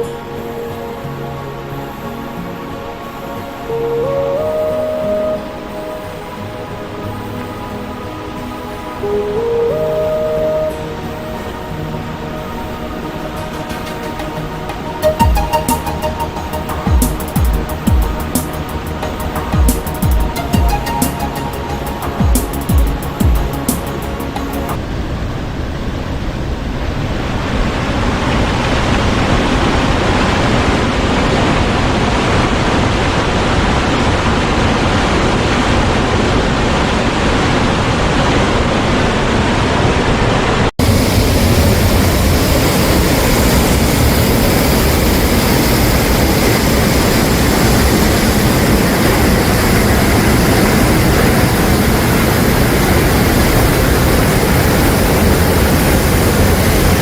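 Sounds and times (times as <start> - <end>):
rushing water roar: 0.0 - 57.0.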